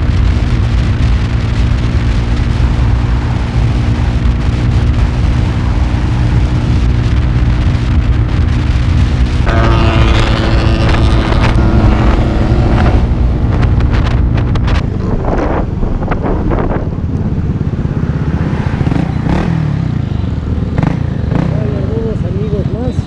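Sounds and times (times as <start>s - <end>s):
wind on microphone: 0.0s - 19.6s
motorcycle engine: 0.0s - 23.0s.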